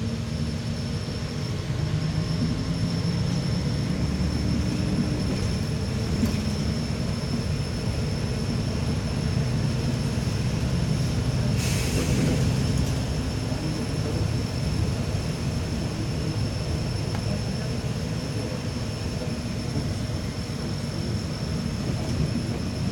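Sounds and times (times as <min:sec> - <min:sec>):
bus engine and road rumble: 0:00.0 - 0:22.9.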